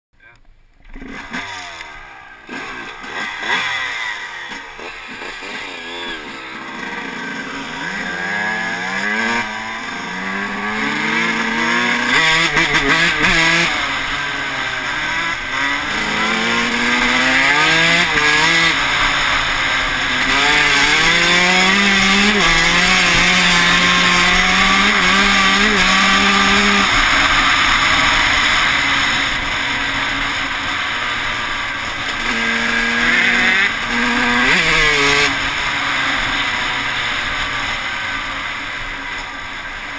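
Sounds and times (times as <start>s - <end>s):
dirt bike engine revving: 0.8s - 39.9s.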